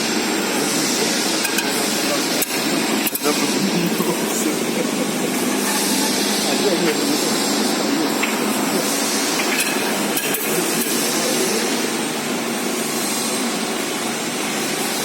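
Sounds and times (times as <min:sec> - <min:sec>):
duct forming machine running: 0:00.0 - 0:15.0.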